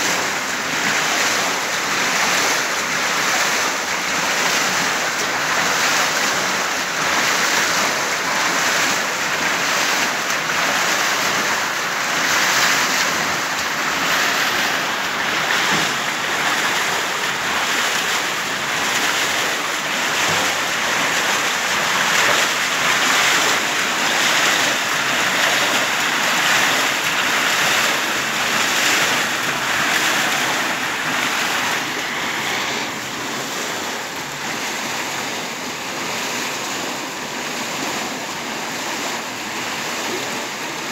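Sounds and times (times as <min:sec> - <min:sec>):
water pouring through water wheel: 0:00.0 - 0:40.9.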